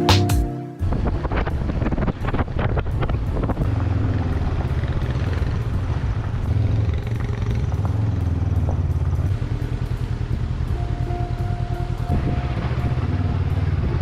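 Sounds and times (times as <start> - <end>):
motorcycle engine running: 0.8 - 14.0.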